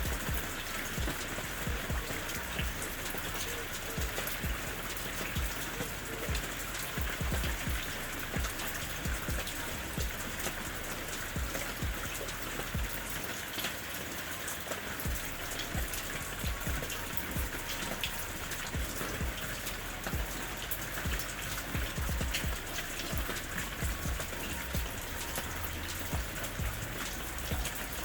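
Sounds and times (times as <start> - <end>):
raindrops tapping: 0.0 - 28.0
steady rain hiss: 0.0 - 28.0.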